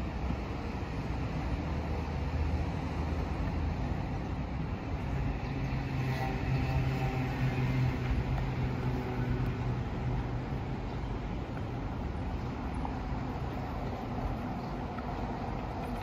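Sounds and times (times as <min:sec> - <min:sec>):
outdoor background noise: 0:00.0 - 0:16.0
vehicle engine hum: 0:00.0 - 0:16.0.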